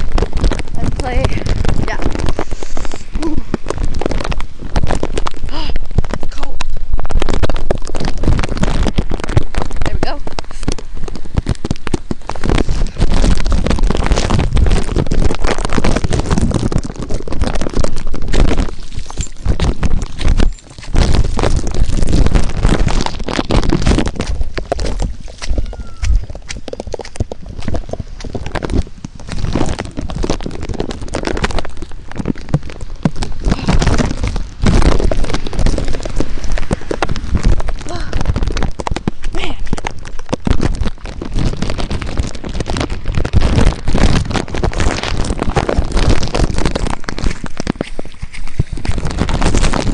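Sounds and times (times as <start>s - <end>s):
heavy low rumble: 0.0s - 40.2s
knocks and crackles: 0.0s - 49.9s
wind and rain on microphone: 0.0s - 49.9s.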